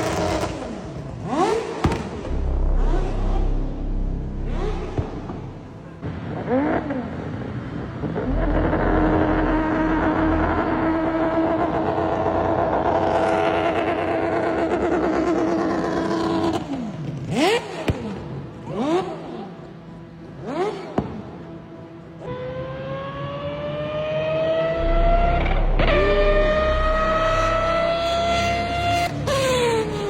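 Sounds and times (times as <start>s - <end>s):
rotary engine revving high: 0.0s - 21.4s, 22.2s - 30.0s.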